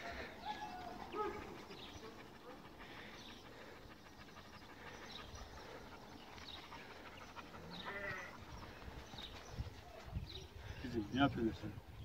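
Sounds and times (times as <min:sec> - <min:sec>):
dogs panting: 0:00.0 - 0:11.9.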